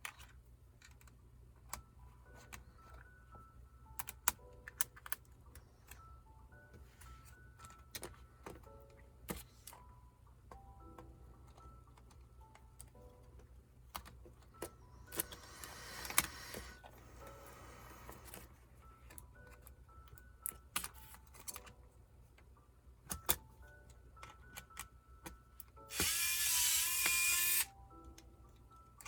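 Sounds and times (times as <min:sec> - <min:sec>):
quiet background music: 0:00.0 - 0:29.0.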